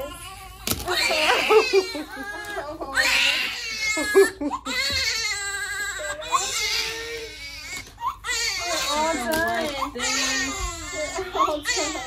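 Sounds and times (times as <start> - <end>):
babies crying: 0.0 - 12.0.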